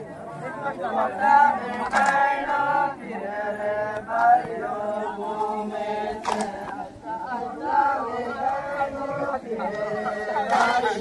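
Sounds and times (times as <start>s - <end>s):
group singing in chorus: 0.0s - 11.0s.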